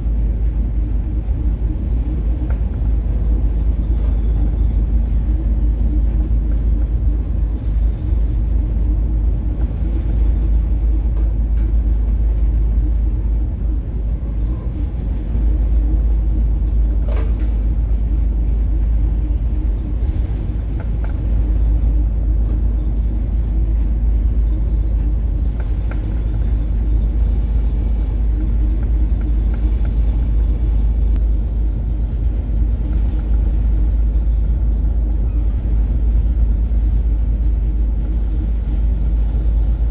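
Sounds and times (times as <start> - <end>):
ship engine rumble: 0.0 - 39.9.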